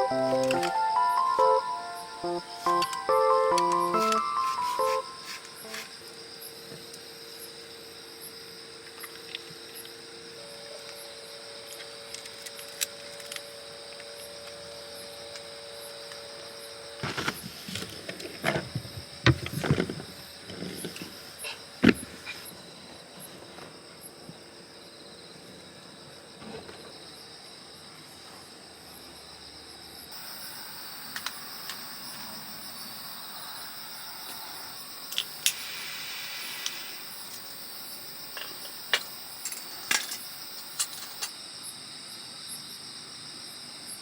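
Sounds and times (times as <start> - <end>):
insects chorus: 0.0 - 44.0.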